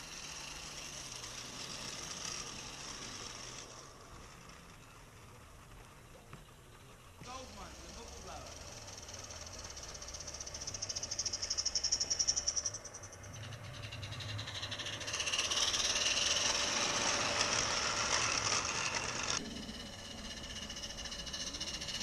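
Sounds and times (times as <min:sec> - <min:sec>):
steam locomotive chuffing: 0:00.0 - 0:22.0
train wheels rattling on track: 0:00.0 - 0:22.0.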